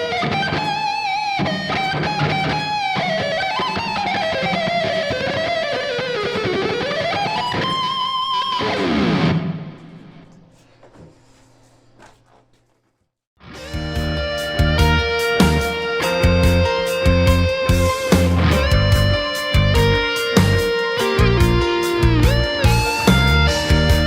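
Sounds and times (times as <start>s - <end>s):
electric guitar lead melody: 0.0s - 10.2s, 13.4s - 24.0s.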